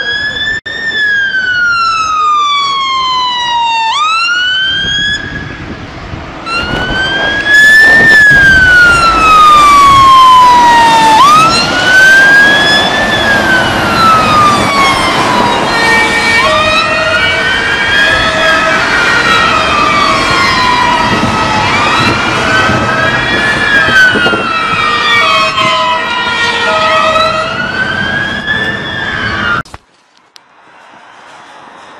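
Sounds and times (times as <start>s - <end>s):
fire engine siren wailing: 0.0s - 29.7s.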